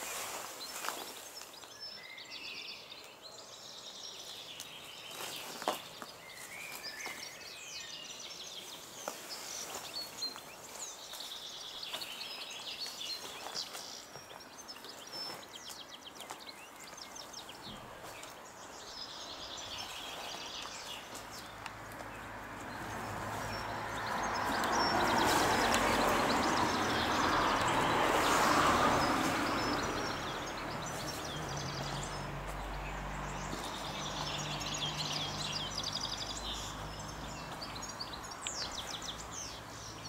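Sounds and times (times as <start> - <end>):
songbirds singing: 0.0 - 40.0.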